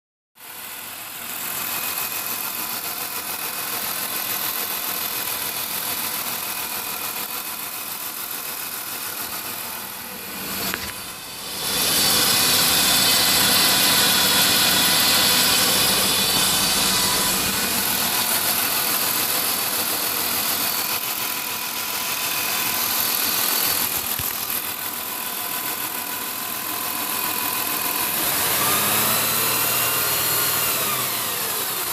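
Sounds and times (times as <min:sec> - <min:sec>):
car engine running: 0:00.5 - 0:31.9
noise from engine pulley: 0:01.4 - 0:31.9.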